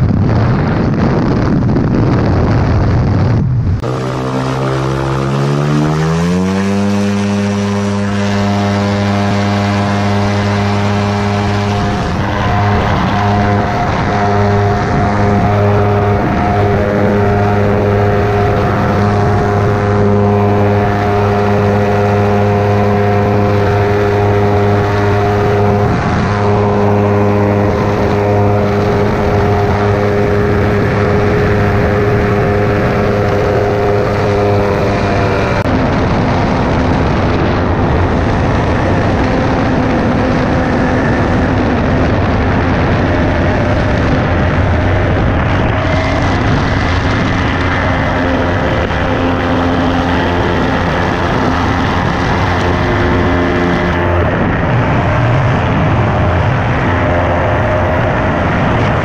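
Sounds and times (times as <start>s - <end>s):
ultralight engine and propeller: 0.0s - 59.0s.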